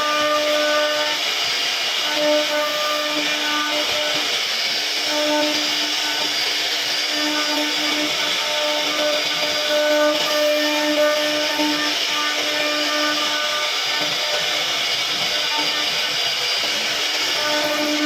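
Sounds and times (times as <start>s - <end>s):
router spindle cutting wood: 0.0s - 18.0s.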